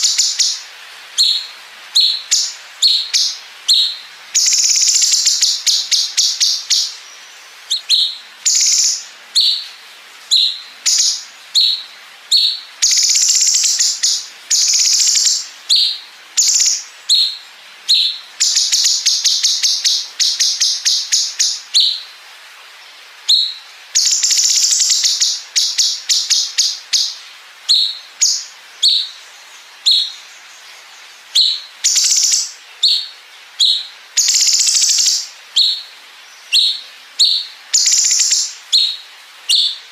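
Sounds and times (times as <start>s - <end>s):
songbird singing whistles and trills: 0.0s - 22.1s, 23.2s - 39.9s.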